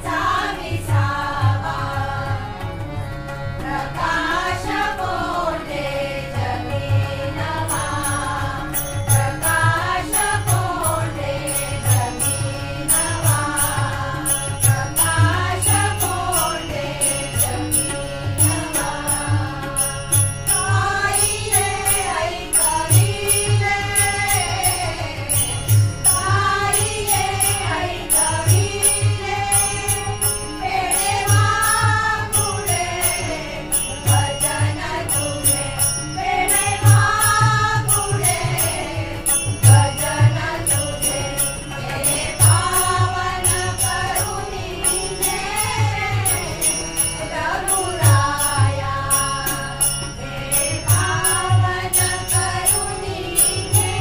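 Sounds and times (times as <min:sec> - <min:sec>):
group singing devotional song: 0:00.0 - 0:54.0
harmonium chords: 0:00.0 - 0:54.0
tabla strokes: 0:00.0 - 0:54.0
hand cymbals jingling: 0:07.6 - 0:54.0.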